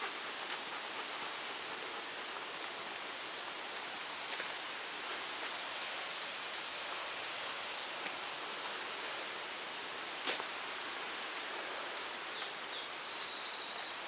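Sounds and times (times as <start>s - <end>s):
wind through leaves: 0.0s - 14.0s.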